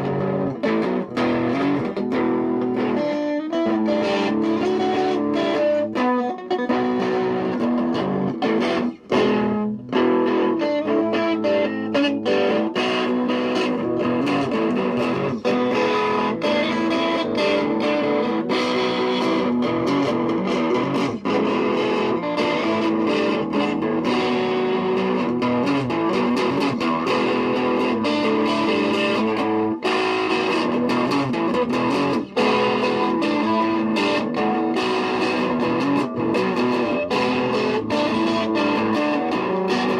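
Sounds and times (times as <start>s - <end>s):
distorted electric guitar music: 0.0s - 39.9s.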